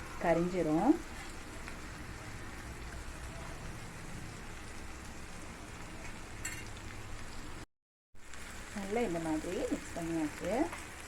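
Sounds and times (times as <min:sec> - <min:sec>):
food sizzling in oil: 0:00.0 - 0:11.0
oil crackle: 0:00.2 - 0:11.0.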